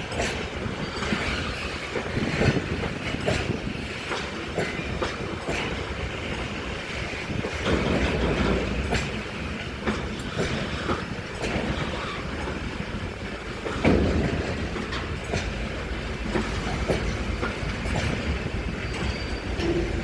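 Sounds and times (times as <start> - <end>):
freight train wagons rumbling: 0.0 - 20.0
wheels clacking over rail joints: 0.0 - 20.0.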